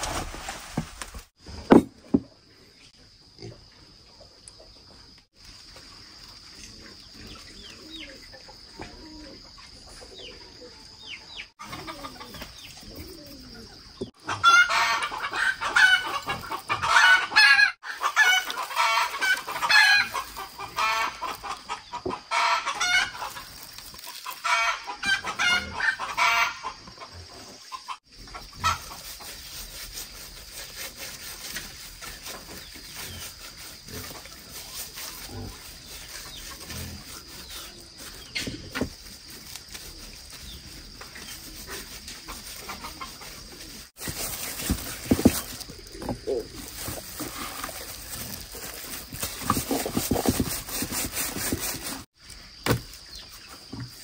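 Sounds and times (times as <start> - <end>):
chickens clucking and cackling: 3.0 - 52.1.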